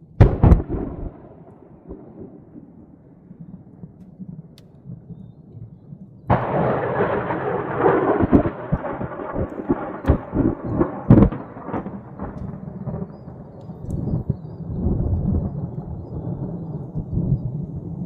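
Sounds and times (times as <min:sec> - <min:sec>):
thunder cracking and rumbling: 0:00.0 - 0:18.0.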